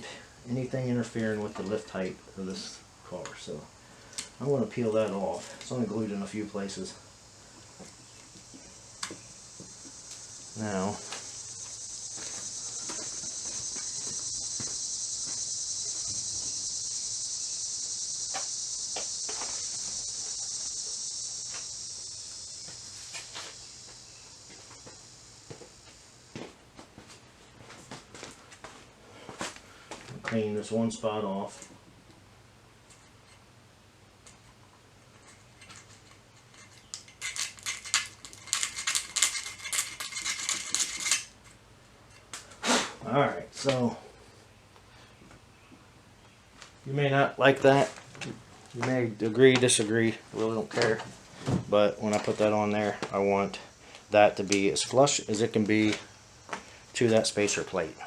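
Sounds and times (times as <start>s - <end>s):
insect chorus buzzing: 0.0s - 33.6s, 34.2s - 41.4s, 42.1s - 58.0s.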